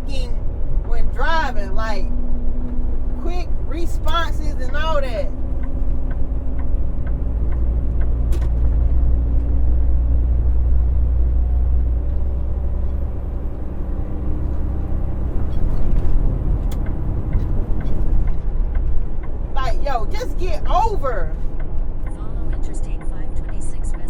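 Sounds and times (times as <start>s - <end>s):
truck engine droning: 0.0s - 24.0s.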